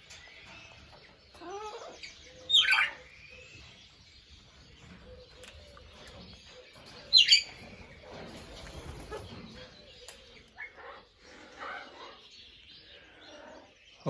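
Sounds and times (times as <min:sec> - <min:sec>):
parrots squawking and chirping: 0:00.1 - 0:03.9, 0:04.8 - 0:14.0.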